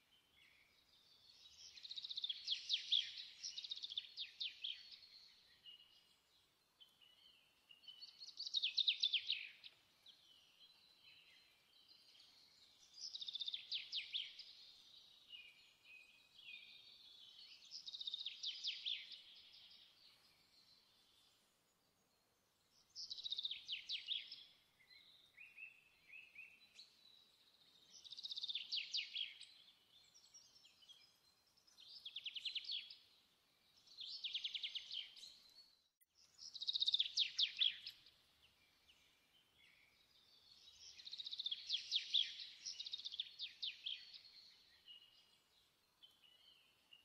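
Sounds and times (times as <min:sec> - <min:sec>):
bird singing trilled phrases: 0:00.1 - 0:06.2, 0:06.8 - 0:21.2, 0:22.7 - 0:47.0.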